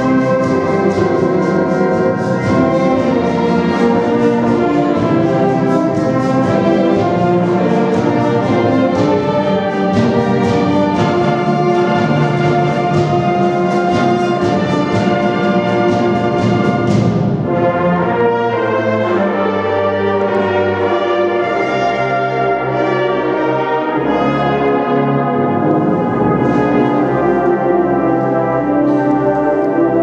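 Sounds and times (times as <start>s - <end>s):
wind band playing chords: 0.0s - 30.0s.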